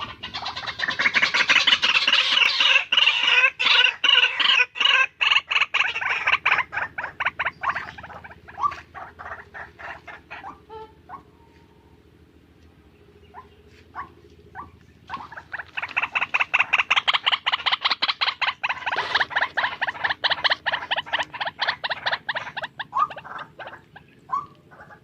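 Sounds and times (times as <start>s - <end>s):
bird harsh repeated calls: 0.0s - 12.2s, 12.9s - 25.0s.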